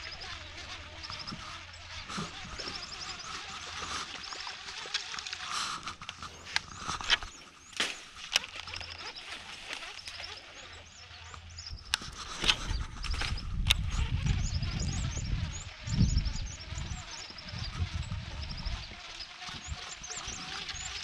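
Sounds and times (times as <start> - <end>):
high repeated wildlife chirps: 0.0 - 4.9, 6.6 - 21.0.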